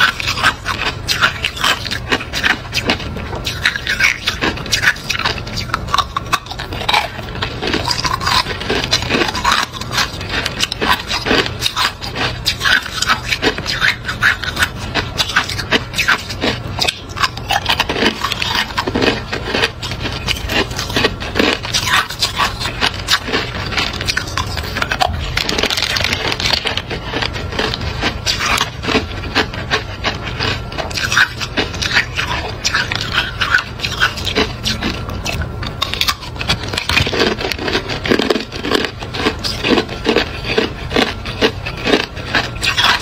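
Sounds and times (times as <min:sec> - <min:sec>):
ice crunching between teeth: 0:00.0 - 0:43.0.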